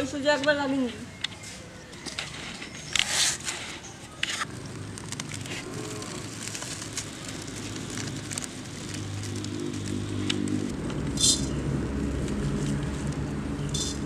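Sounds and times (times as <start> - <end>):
dry leaves and twigs crackling: 0.0 - 14.0.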